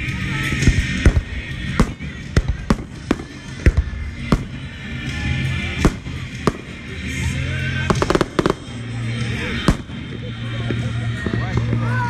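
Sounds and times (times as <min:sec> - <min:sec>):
fireworks bursting: 0:00.0 - 0:11.9
music playing: 0:00.0 - 0:12.0.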